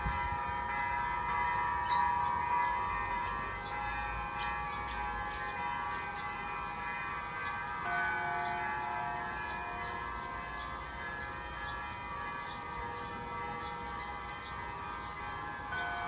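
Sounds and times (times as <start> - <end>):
wind chimes ringing: 0.0 - 16.0.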